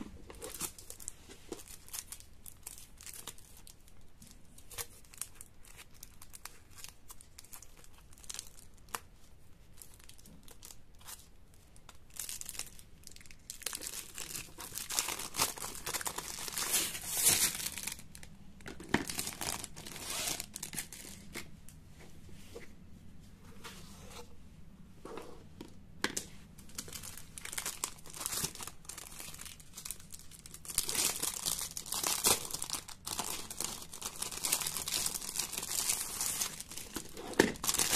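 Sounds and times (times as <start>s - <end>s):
plastic wrap crinkling: 0.0s - 21.5s, 26.6s - 37.9s.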